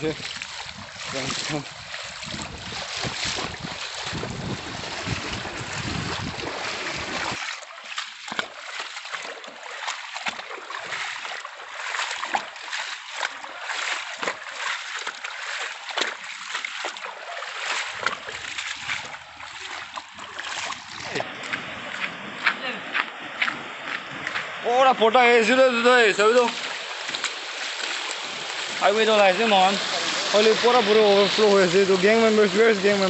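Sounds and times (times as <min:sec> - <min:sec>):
floodwater rushing and splashing: 0:00.0 - 0:33.0.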